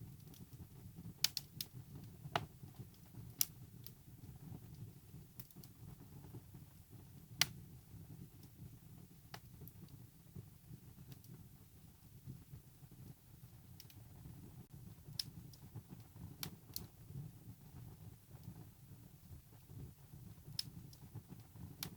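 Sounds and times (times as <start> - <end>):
wood crackling and popping: 0.0 - 8.7, 12.0 - 17.0, 17.7 - 21.9
low rumble of flames: 0.0 - 21.9.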